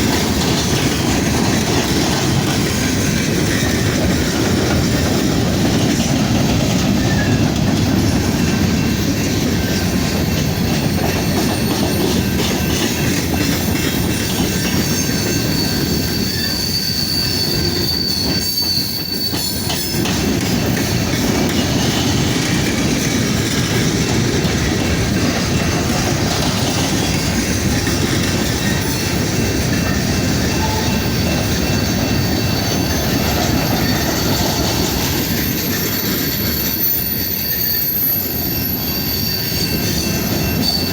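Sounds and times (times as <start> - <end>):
train wheels rumbling on rails: 0.0 - 40.9
high wheel squeal: 6.7 - 40.9.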